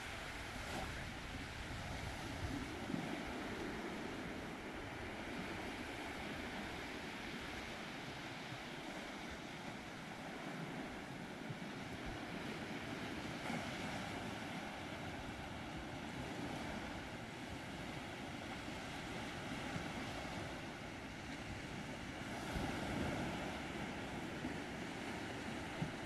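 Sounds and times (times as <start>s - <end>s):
waves washing onto sandy beach: 0.0s - 26.0s.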